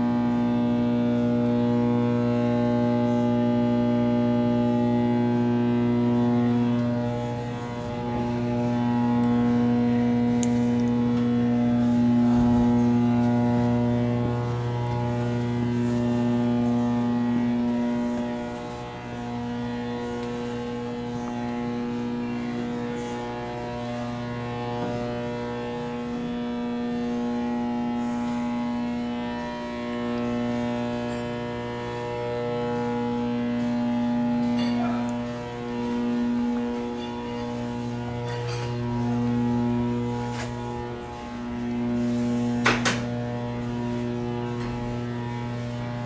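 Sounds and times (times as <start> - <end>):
engine room electrical hum: 0.0 - 46.0.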